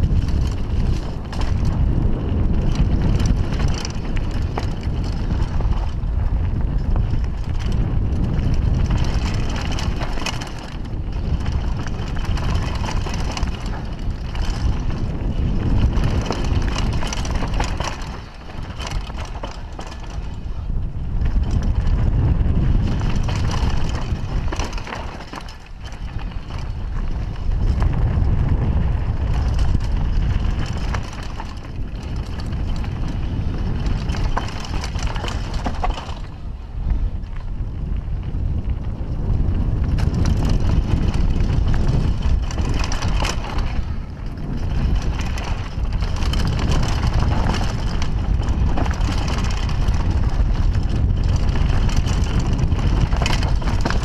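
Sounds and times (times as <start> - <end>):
bike rattling and knocking: 0.0 - 54.0
tyres crunching over loose ground: 0.0 - 54.0
wind rumble on microphone: 0.0 - 54.0.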